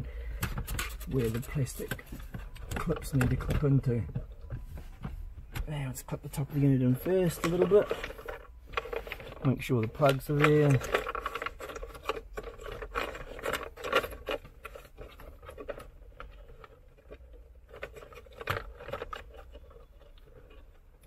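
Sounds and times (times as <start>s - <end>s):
plastic trim rubbing and scraping: 0.0s - 21.0s.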